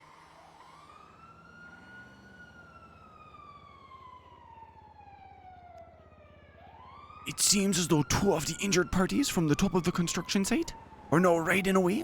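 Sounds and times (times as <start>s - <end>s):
faint siren wailing: 0.1s - 12.0s.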